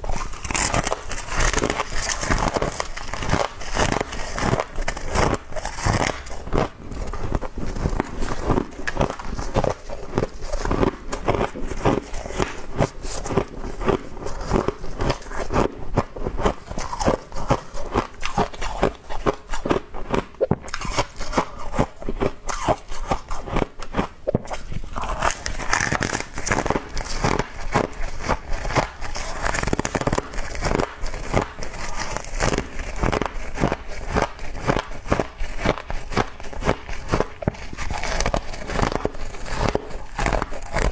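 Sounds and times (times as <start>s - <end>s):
person chewing crunchy frost: 0.0s - 40.9s.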